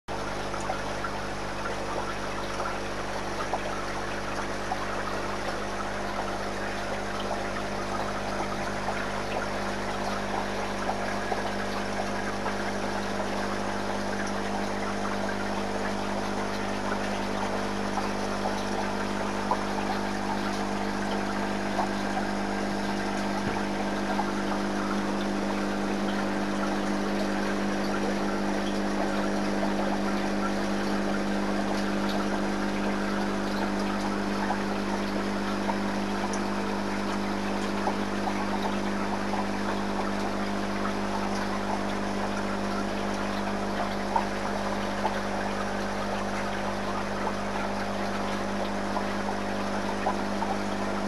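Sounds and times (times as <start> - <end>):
pump hum: 0.1 - 51.0
water trickling: 0.1 - 51.0.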